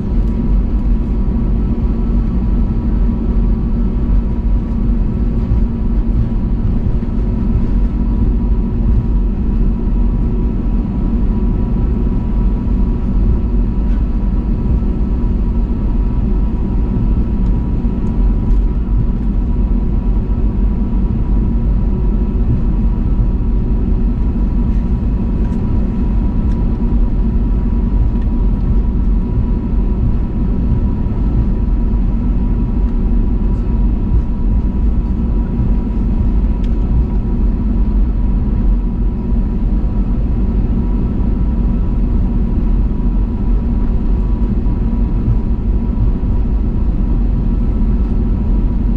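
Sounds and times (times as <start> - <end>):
jet engines heard inside cabin: 0.0 - 48.9.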